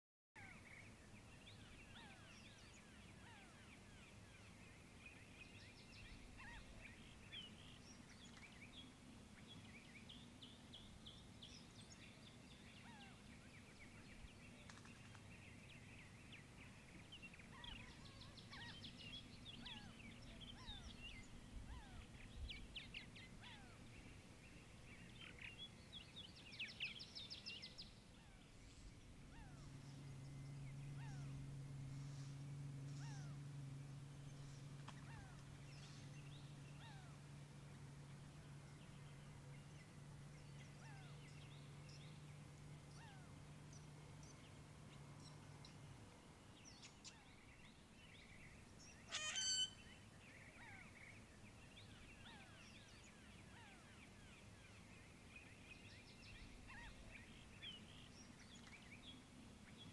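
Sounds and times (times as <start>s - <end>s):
low steady hum: 0.4s - 59.9s
small birds chirping: 0.4s - 59.9s.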